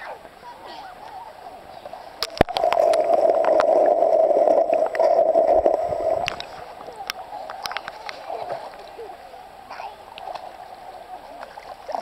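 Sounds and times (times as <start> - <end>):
underwater rushing and gurgling: 0.0 - 12.0
water sloshing over microphone: 0.0 - 12.0.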